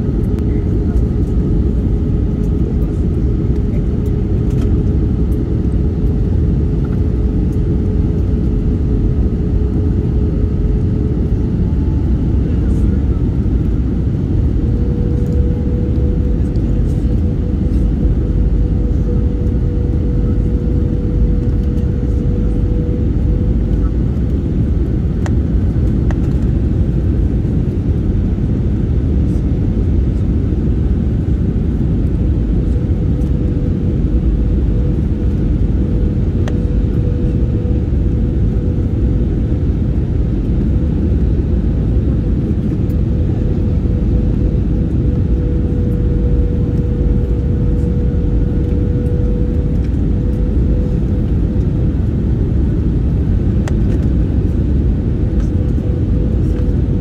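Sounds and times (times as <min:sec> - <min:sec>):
jet engine and airflow rumble: 0:00.0 - 0:57.0
mid-pitched cabin hum: 0:00.0 - 0:57.0.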